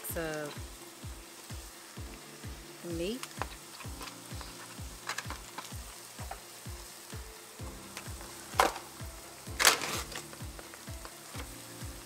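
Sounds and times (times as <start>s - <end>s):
background music with beat: 0.0s - 12.0s
patties sizzling bursts: 0.0s - 12.0s
vegetables sizzling in pan: 0.0s - 12.0s.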